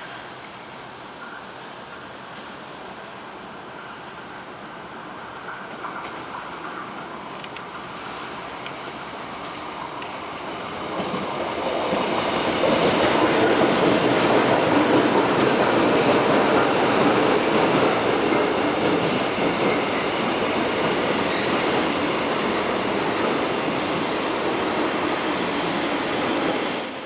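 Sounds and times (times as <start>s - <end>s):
subway train wheels rumbling: 0.0s - 27.0s.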